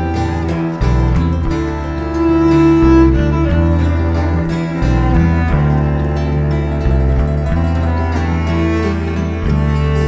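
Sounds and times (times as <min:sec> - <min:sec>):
steady bass line: 0:00.0 - 0:10.0
sustained low string notes: 0:00.0 - 0:10.0.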